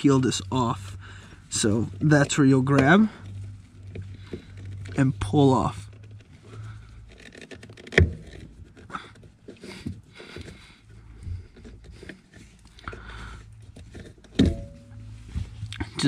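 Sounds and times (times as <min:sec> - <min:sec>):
rubber scraping against metal pedal: 0:00.8 - 0:16.0.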